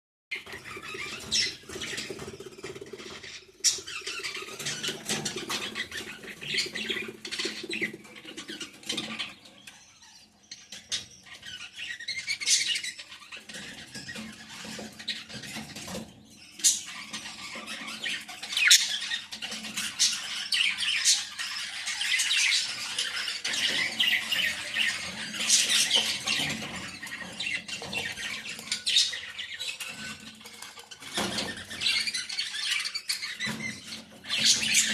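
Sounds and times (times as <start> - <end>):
parrots chattering and squawking: 0.4 - 34.9.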